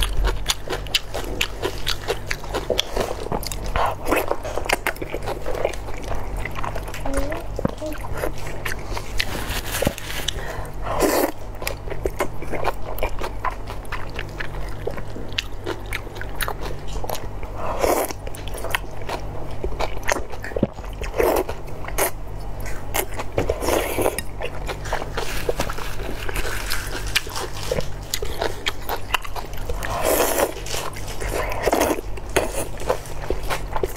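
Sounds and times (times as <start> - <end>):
steady low hum: 0.0 - 33.9
wet chewing: 0.0 - 33.9.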